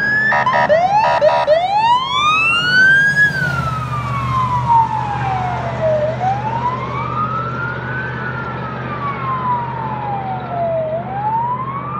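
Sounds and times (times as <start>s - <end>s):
fire engine siren wailing: 0.0s - 11.9s.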